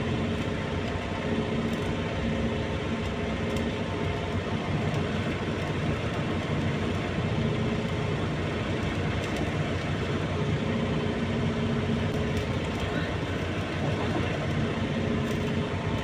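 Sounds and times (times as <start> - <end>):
large engine humming steadily: 0.0 - 16.0.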